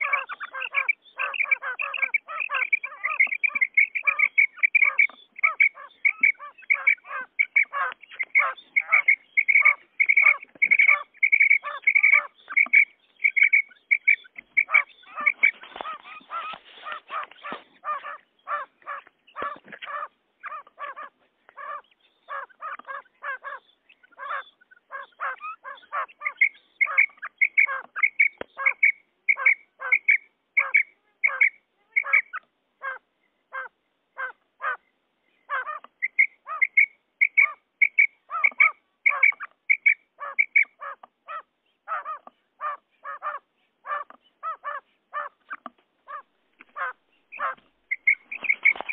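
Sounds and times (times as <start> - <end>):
quail calling: 0.0 - 48.9.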